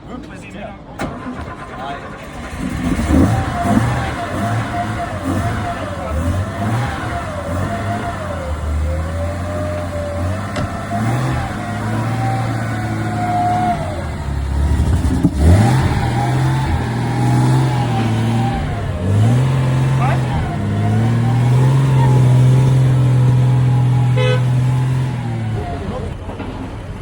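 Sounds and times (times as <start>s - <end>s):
car engine revving: 1.1s - 27.0s.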